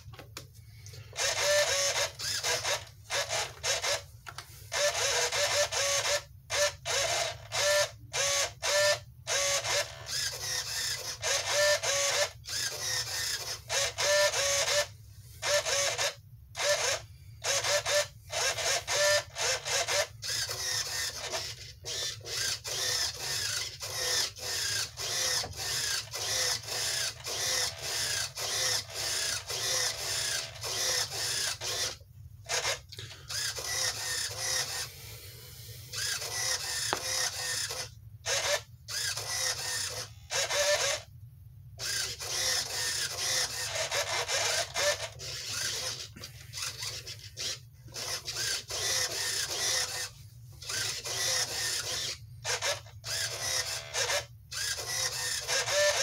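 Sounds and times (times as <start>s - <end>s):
servos whirring: 0.8s - 41.2s, 41.8s - 56.0s.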